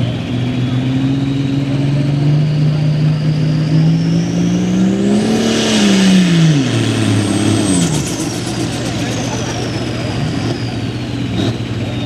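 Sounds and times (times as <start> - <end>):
tractor diesel engine revving: 0.0 - 12.0
faint high whine: 1.4 - 12.0.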